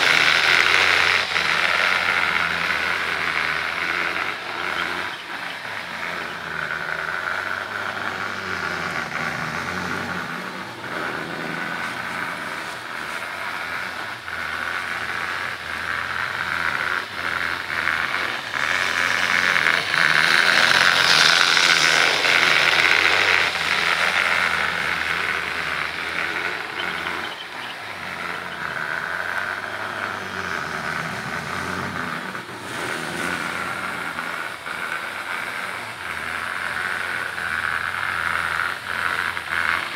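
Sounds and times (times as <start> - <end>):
model train motor whine: 0.0 - 39.9
model train wheel clatter: 0.0 - 39.9.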